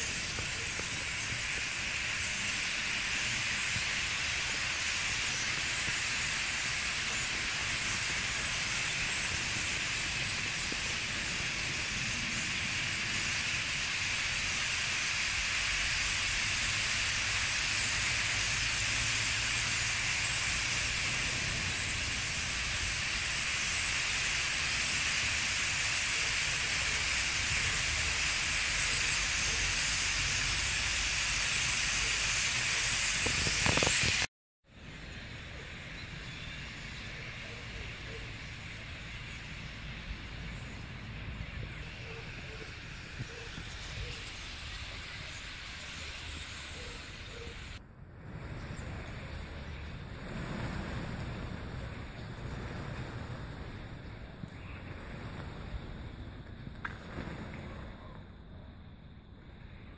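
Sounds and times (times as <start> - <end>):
starlings chattering: 0.0 - 34.3, 35.0 - 57.3.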